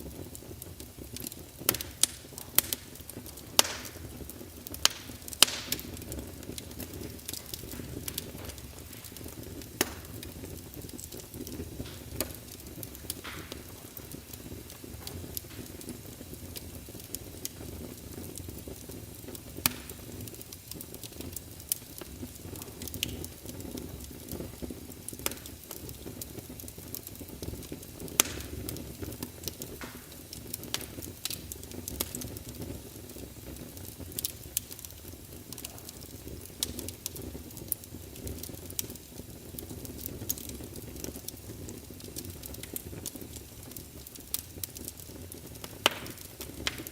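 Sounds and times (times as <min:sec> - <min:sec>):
burning logs crackling and popping: 0:00.0 - 0:46.9
low rumble of flames: 0:00.0 - 0:46.9.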